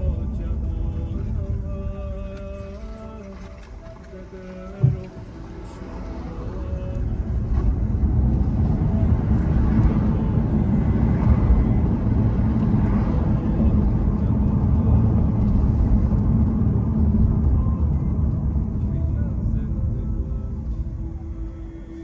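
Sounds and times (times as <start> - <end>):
vehicle road noise rumble: 0.0 - 22.0.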